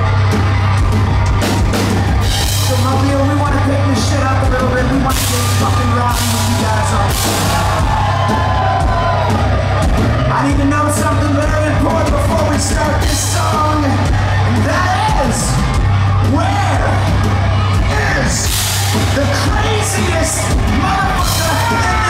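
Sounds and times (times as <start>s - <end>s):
bass guitar: 0.0s - 22.0s
drum kit with cymbal crashes: 0.0s - 22.0s.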